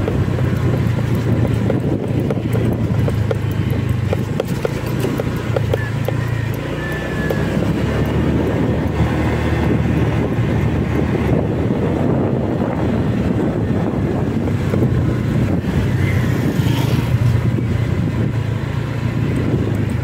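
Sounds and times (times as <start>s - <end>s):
scooter engine running: 0.0s - 20.0s
wind rumbling on microphone: 0.0s - 20.0s.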